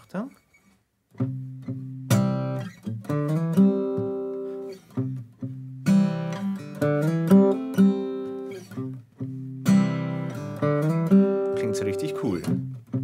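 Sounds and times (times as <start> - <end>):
acoustic guitar strumming and licks: 0.3 - 13.0.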